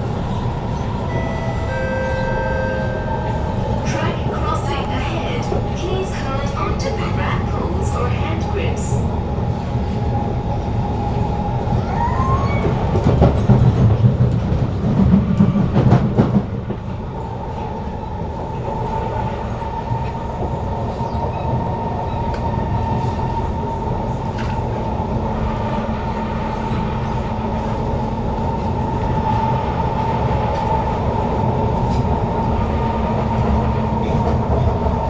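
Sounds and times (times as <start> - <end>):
rumble of wheels on track: 0.0 - 35.0.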